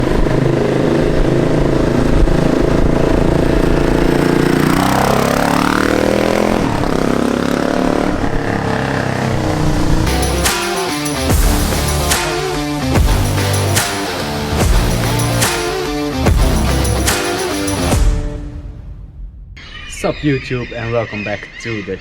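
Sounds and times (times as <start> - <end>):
motorcycle engine revving: 0.0 - 18.5.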